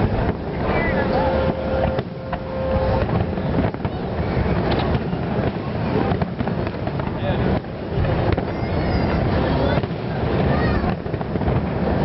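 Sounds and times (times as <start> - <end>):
fireworks bangs and crackles: 0.0 - 12.0
wind buffeting microphone: 0.0 - 12.0.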